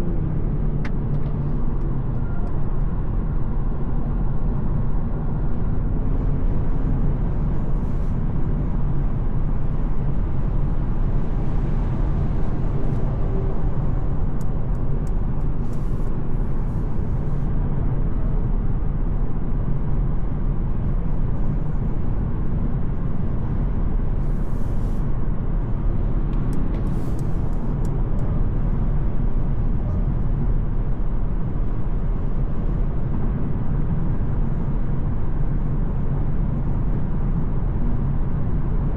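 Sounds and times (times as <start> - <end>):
car driving on road: 0.0 - 38.9.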